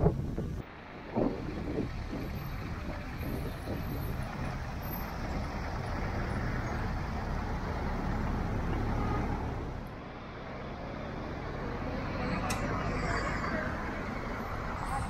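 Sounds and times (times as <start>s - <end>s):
bus driving past: 0.0s - 15.0s
cars driving past: 0.3s - 15.0s.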